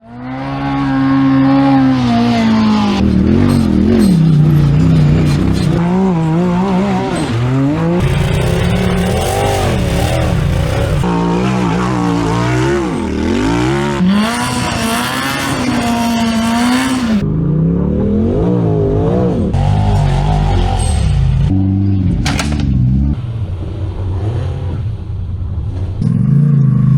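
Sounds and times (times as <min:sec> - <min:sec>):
off-road vehicle engine revving: 0:00.0 - 0:26.9.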